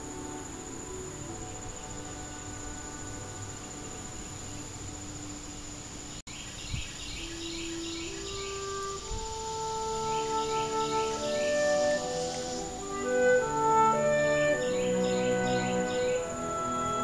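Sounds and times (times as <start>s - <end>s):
soft music of held notes: 0.0s - 6.2s, 7.2s - 17.0s
high-pitched insect trill: 0.0s - 17.0s.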